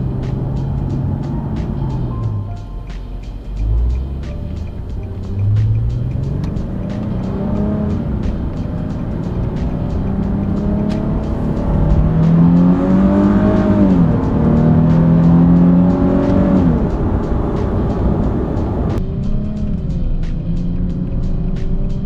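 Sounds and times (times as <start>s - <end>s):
faint regular ticking: 0.0s - 19.0s
car engine accelerating: 0.0s - 19.1s.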